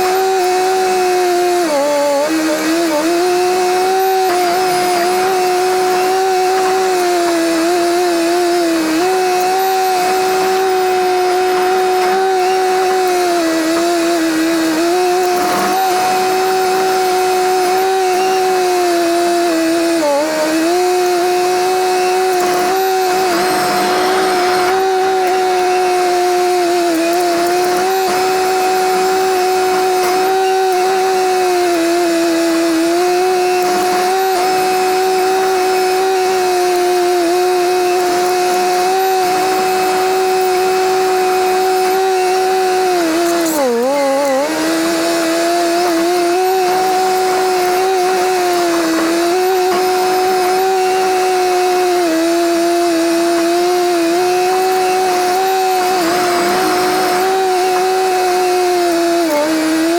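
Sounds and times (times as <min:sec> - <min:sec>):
bulldozer diesel engine high revs: 0:00.0 - 0:59.9.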